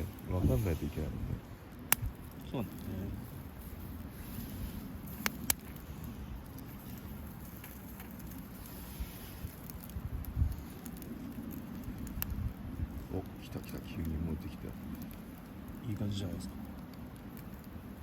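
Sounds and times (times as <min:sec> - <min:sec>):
campfire crackling: 0:00.0 - 0:18.0
sharp fire pops: 0:00.0 - 0:18.0.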